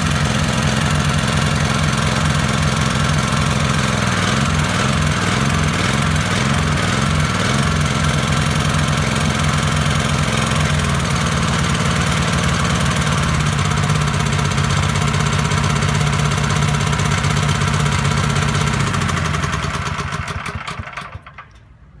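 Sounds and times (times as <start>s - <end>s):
pressure washer petrol engine running: 0.0s - 21.7s.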